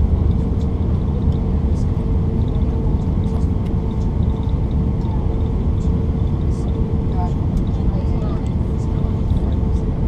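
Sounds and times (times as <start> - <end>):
aircraft cabin engine roar: 0.0 - 10.0
mid-pitched hum: 0.0 - 10.0.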